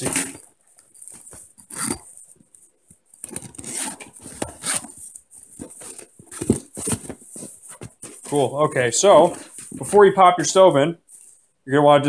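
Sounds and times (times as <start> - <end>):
carrying case rustling and scraping: 0.0 - 11.4.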